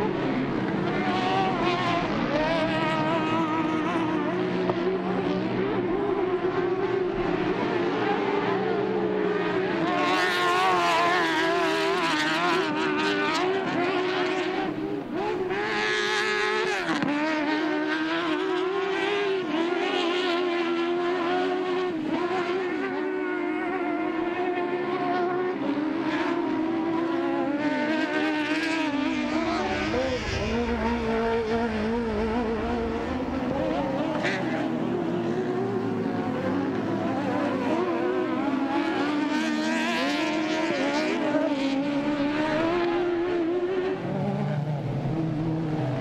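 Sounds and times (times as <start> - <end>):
race engines revving hard: 0.0 - 46.0.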